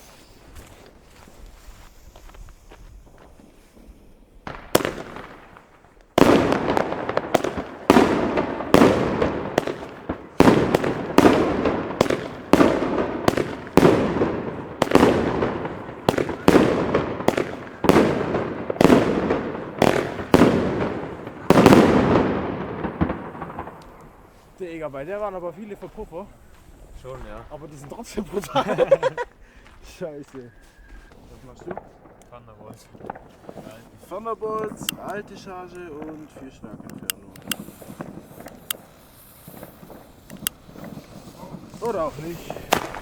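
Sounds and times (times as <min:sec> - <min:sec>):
fireworks banging: 0:00.0 - 0:30.4, 0:31.1 - 0:43.0
firework shots puffing: 0:00.0 - 0:43.0.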